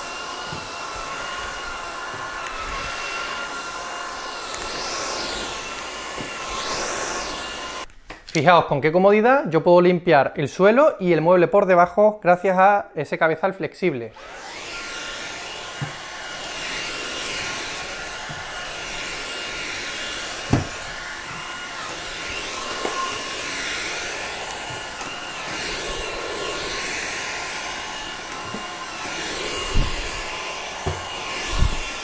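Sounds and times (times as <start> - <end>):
vacuum cleaner running: 0.0 - 7.9, 14.1 - 32.0.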